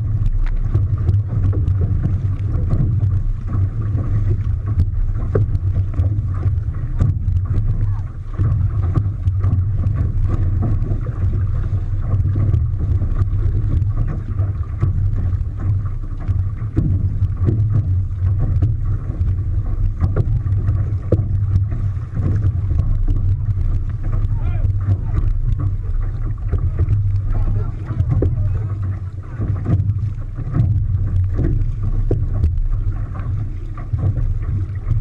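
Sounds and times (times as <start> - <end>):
water splashing against boat: 0.0 - 35.0
wind rumbling on microphone: 0.0 - 35.0.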